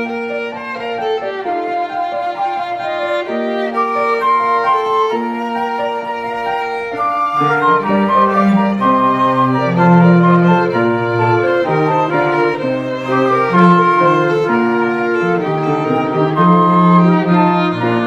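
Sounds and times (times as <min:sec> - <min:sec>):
lower bowed strings: 0:00.0 - 0:18.0
violin melody: 0:00.0 - 0:18.0.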